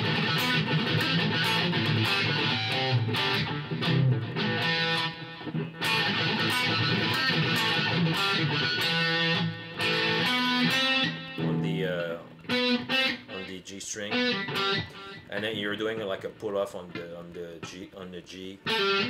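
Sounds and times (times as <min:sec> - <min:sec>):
electric guitar shuffle riff: 0:00.0 - 0:19.0.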